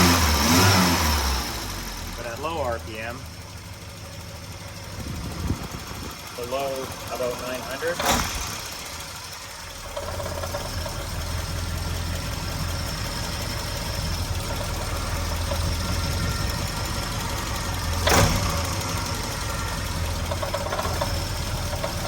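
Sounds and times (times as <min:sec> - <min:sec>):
car engine idling with rattle: 0:00.0 - 0:22.0.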